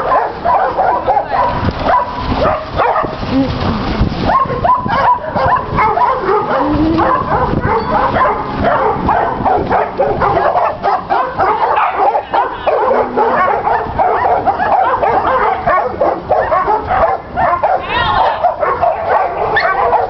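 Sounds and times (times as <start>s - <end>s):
pack of dogs barking: 0.0s - 3.2s, 4.2s - 20.0s.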